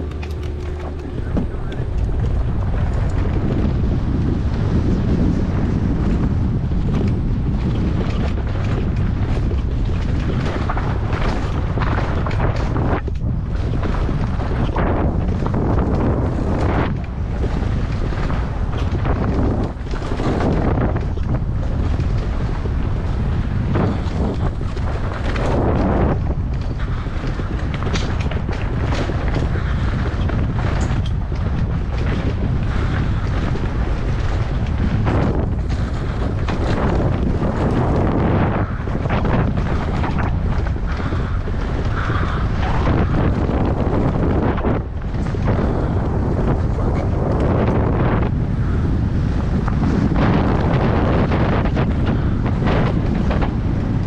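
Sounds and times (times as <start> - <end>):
mountain bike rattling: 0.0 - 54.0
wind buffeting microphone: 0.0 - 54.0.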